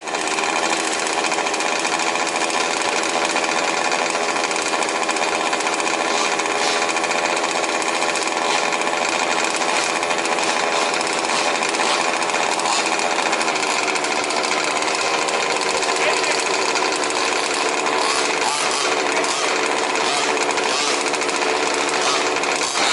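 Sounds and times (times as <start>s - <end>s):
small two-stroke engines buzzing: 0.0s - 22.9s.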